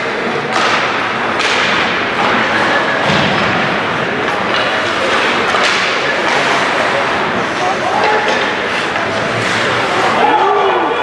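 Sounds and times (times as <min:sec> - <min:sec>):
noisy hall background: 0:00.0 - 0:11.0.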